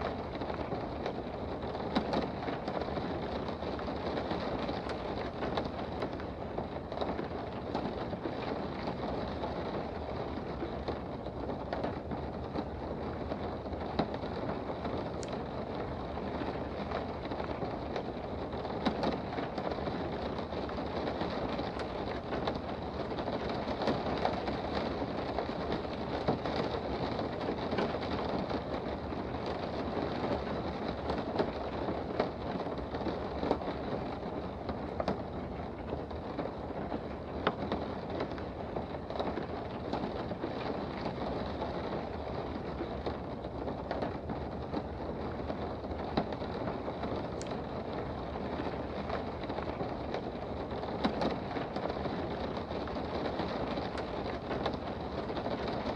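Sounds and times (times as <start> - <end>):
raindrops ticking on a surface: 0.0 - 55.9
steady rain hiss: 0.0 - 55.9.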